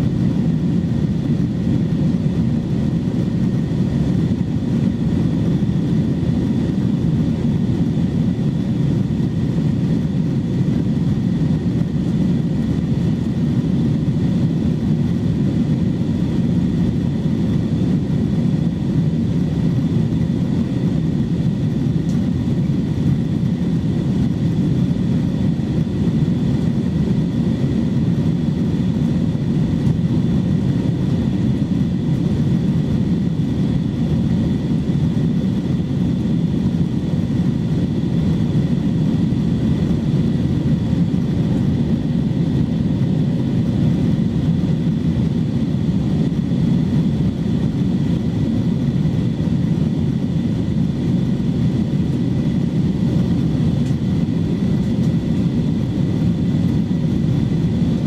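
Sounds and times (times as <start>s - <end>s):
airplane cabin engine roar: 0.0s - 58.0s.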